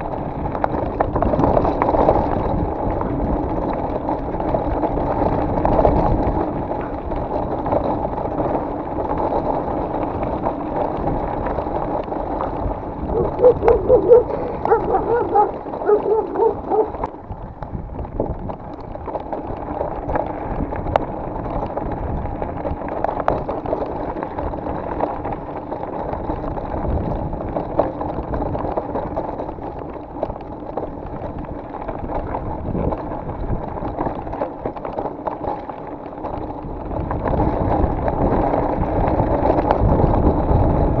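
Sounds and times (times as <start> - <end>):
bike clicks and rattles: 0.0 - 41.0
bike tyres crunching on gravel: 0.0 - 41.0.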